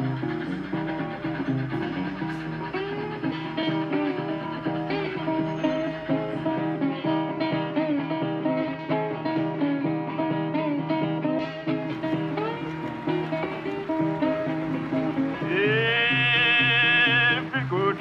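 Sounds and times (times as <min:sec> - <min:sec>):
acoustic blues guitar: 0:00.0 - 0:18.0.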